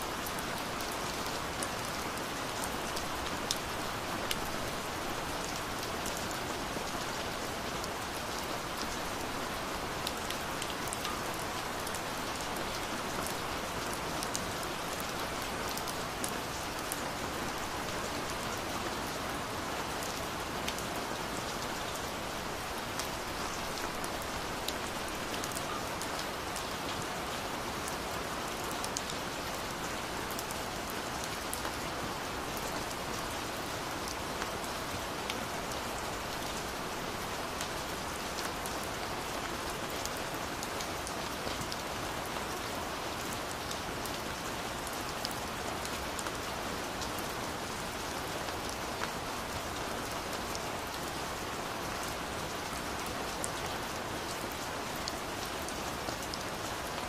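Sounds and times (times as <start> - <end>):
gentle rain hiss: 0.0 - 57.0.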